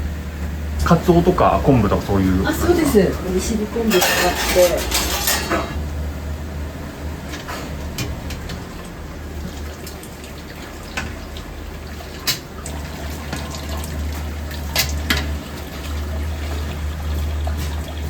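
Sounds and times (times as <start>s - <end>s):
steady low hum: 0.0s - 18.0s
water running: 0.7s - 5.8s, 7.2s - 18.0s.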